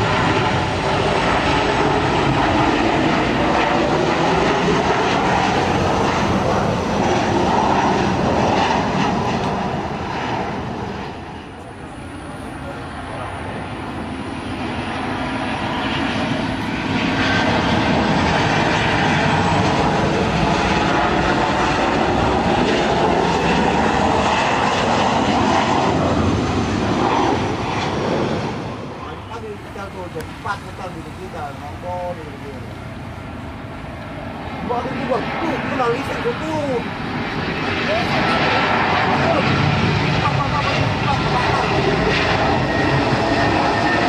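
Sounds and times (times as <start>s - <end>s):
jet engines passing low: 0.0s - 44.0s.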